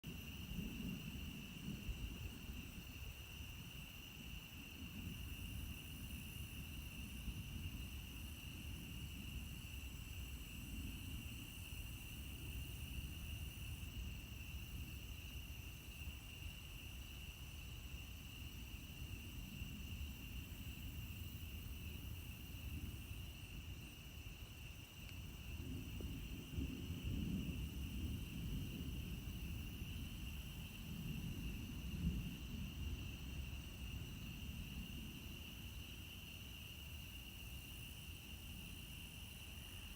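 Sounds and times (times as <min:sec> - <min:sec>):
frogs and insects trilling: 0:00.1 - 0:39.9.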